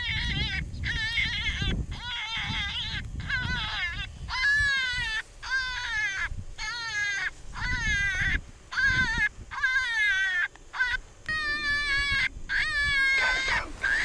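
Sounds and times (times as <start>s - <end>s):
predator call wailing cries: 0.0s - 14.0s.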